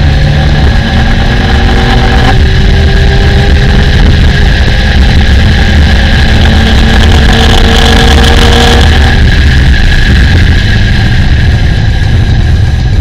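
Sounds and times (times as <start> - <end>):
car engine at high revs: 0.0 - 13.0
wind and road noise: 0.0 - 13.0.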